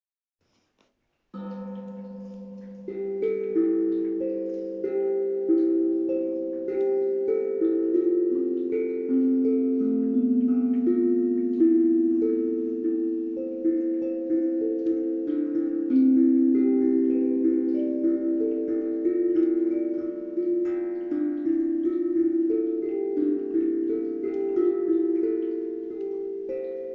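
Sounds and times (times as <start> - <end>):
ringing plucked notes: 1.4 - 26.9.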